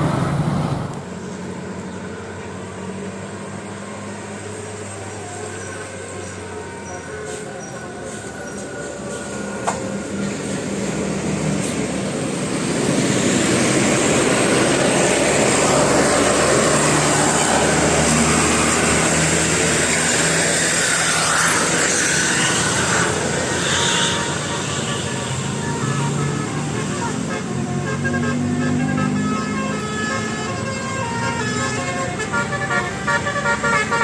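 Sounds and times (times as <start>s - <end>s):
bus driving past: 0.0s - 34.0s.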